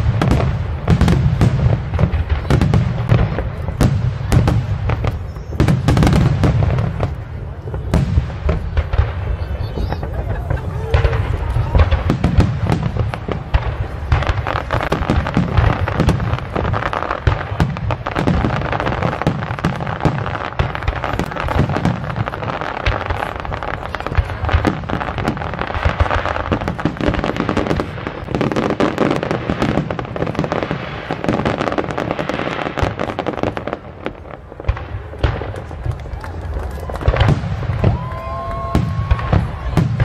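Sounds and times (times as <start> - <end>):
fireworks booming and crackling: 0.0 - 40.0.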